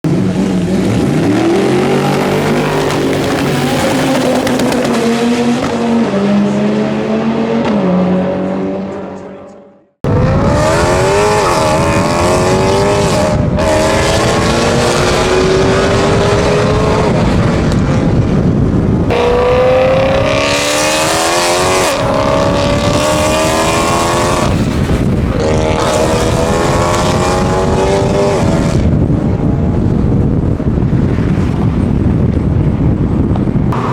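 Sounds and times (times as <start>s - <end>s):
car engine at high revs: 0.0s - 9.3s, 10.0s - 31.8s, 33.7s - 33.9s
car engine accelerating hard: 0.1s - 9.3s, 10.1s - 29.2s.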